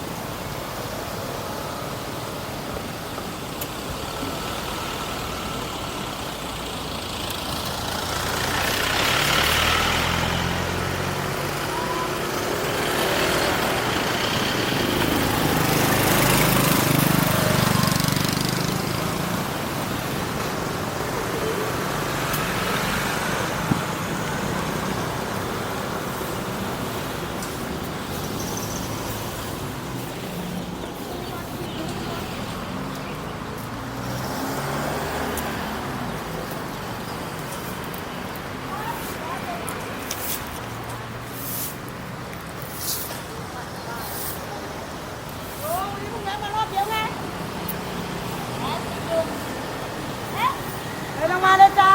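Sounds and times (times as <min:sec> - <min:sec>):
motor vehicles passing: 0:00.0 - 0:51.9.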